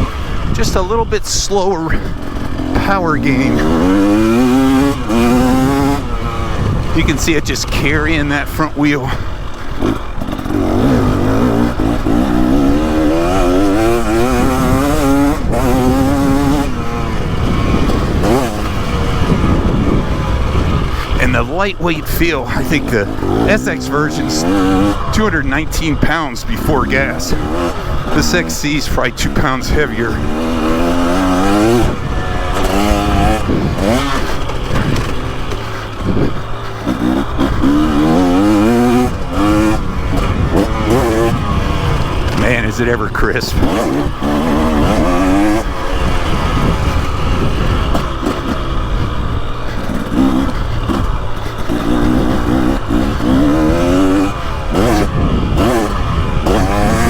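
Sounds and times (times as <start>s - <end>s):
two-stroke engine pulling under load: 0.0s - 57.0s.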